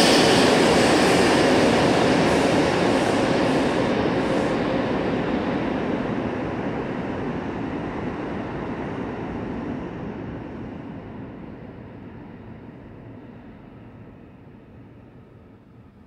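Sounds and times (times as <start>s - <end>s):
subway train rumbling in tunnel: 0.0s - 16.0s.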